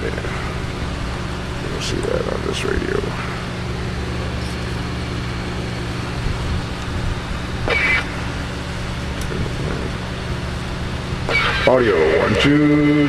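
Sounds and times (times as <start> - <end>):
electrical hum with hiss: 0.0 - 13.0.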